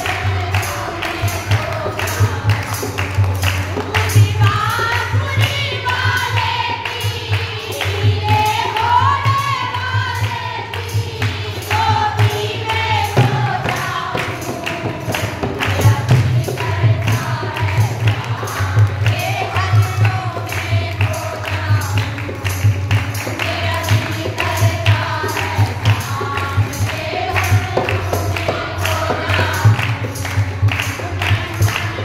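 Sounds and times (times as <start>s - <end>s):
hand-clapping: 0.0s - 32.0s
women singing devotional song: 0.0s - 32.0s.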